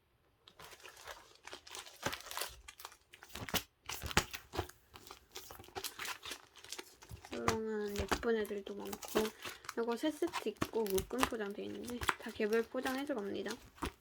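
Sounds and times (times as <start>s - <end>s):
plastic packaging crinkling: 0.4s - 14.0s.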